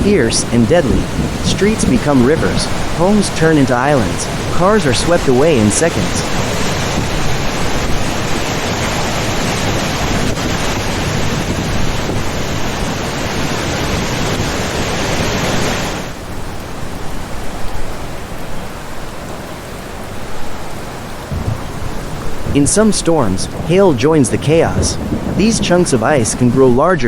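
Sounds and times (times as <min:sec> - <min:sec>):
dull rain: 0:00.0 - 0:27.0
heavy rain rushing: 0:00.0 - 0:27.0.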